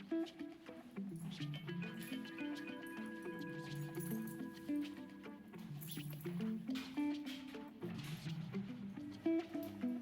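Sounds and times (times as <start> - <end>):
plucked melody over sustained tones: 0.0 - 10.0.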